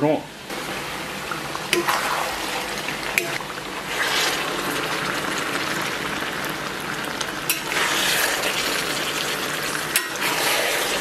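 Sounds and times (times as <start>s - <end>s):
food sizzling in a wok: 0.4s - 11.0s.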